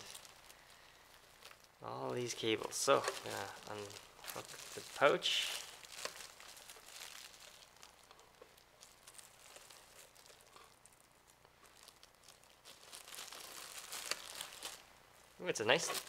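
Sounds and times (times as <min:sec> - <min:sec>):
packaging crinkling and rustling: 0:00.0 - 0:14.9, 0:15.6 - 0:16.0.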